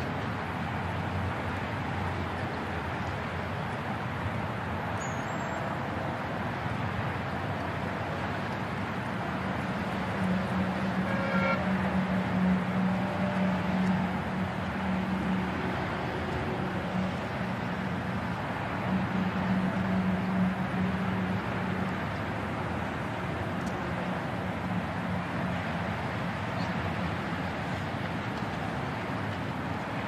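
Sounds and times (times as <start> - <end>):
distant road traffic: 0.0 - 30.0.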